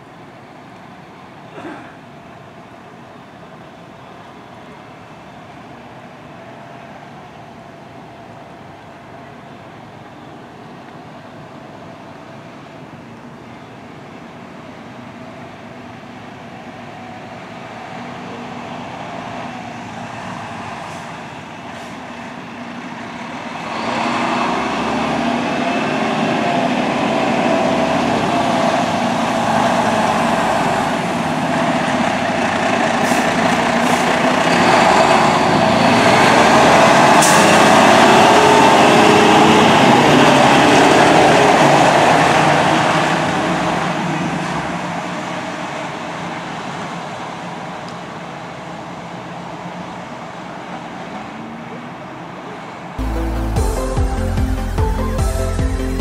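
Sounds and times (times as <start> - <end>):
fire engine driving past: 0.0 - 56.0.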